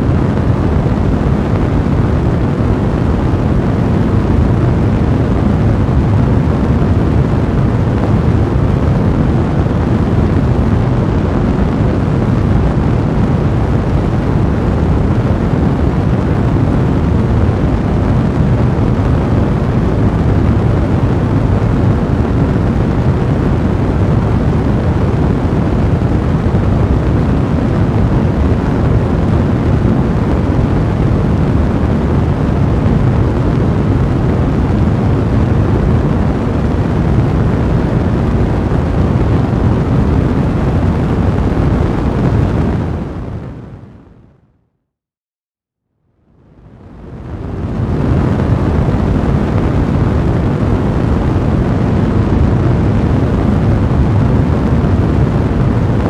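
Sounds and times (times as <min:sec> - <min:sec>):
fire rumbling: 0:00.0 - 0:43.9, 0:46.5 - 0:56.0.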